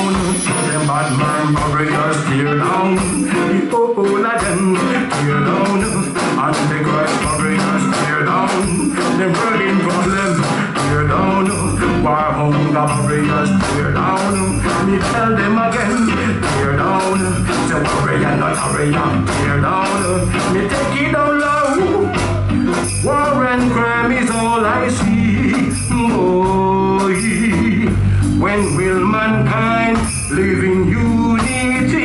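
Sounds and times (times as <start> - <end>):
bass guitar: 0.0 - 32.0
drums: 0.0 - 32.0
electric guitar: 0.0 - 32.0.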